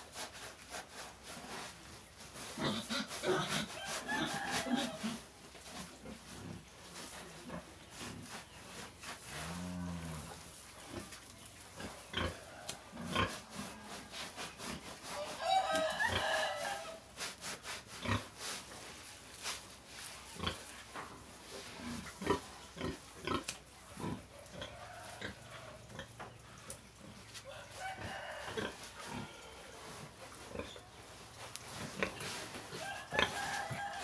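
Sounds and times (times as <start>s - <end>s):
pigs grunting and snuffling: 0.0s - 16.4s, 17.2s - 18.9s, 20.2s - 34.0s.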